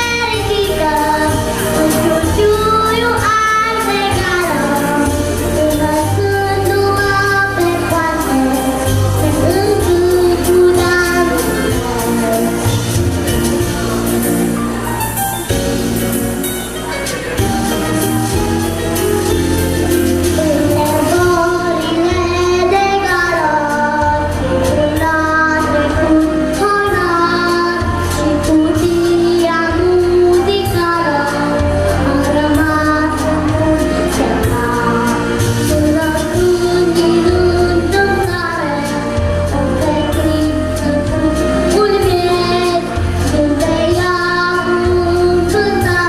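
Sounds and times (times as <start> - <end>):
girl singing: 0.0 - 13.8, 20.1 - 46.0
pop backing track with bass: 0.0 - 46.0.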